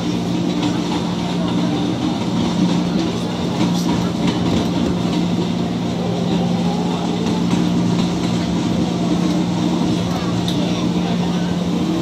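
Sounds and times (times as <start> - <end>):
electric train running past: 0.0 - 12.0.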